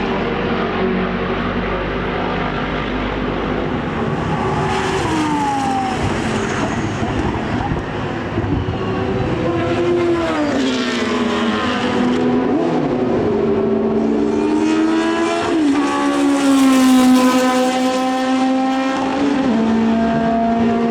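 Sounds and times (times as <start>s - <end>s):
racing car engines: 0.0s - 20.9s.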